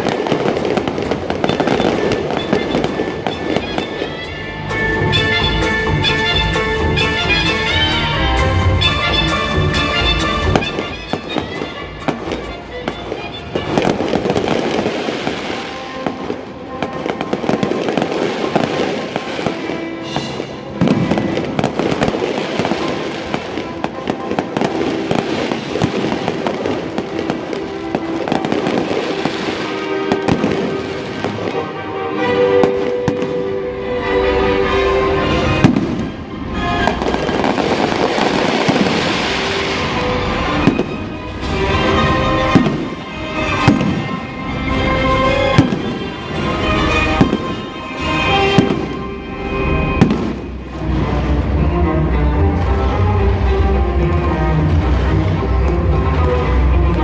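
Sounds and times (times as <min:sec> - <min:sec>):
fireworks bursting and crackling: 0:00.0 - 0:57.0
orchestral music over loudspeakers: 0:00.0 - 0:57.0.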